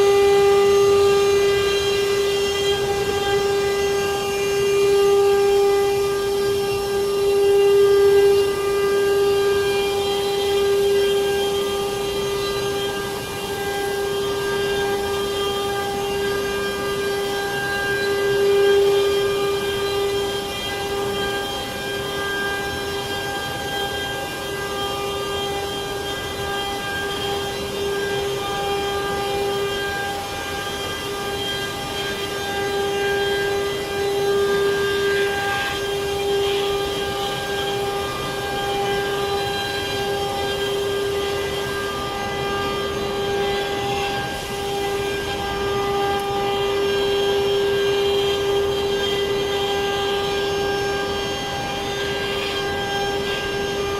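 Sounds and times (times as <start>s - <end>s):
wood router spindle whine: 0.0s - 53.9s.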